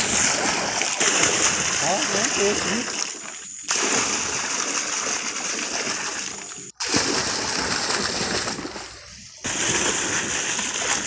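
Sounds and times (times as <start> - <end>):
water pouring into pond: 0.0 - 11.0.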